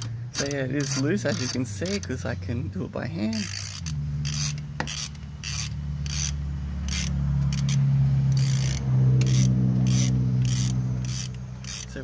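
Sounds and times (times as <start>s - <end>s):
ratchet wrench clicking: 0.0s - 2.2s, 3.2s - 12.0s.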